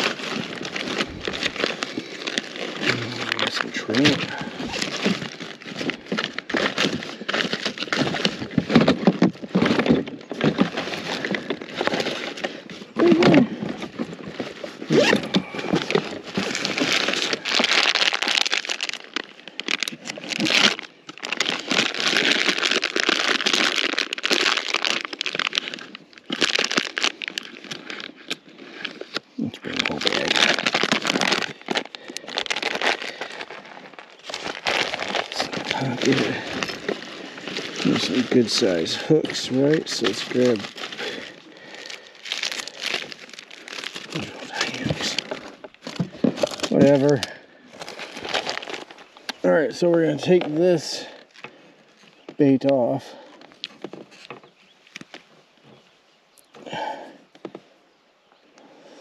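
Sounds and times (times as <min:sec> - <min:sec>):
crinkling and rustling: 0:00.0 - 0:59.0.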